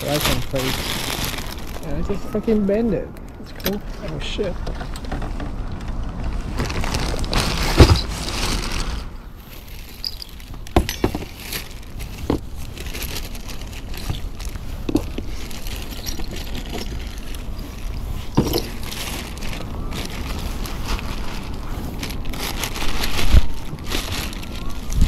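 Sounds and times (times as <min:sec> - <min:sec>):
plastic bag rustling: 0:00.0 - 0:04.5, 0:05.8 - 0:25.0.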